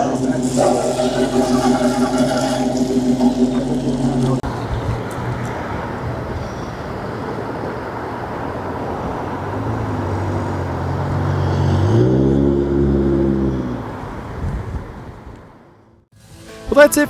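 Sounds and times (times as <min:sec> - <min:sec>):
car engine accelerating: 0:00.0 - 0:16.1
road and tyre noise: 0:00.0 - 0:16.1.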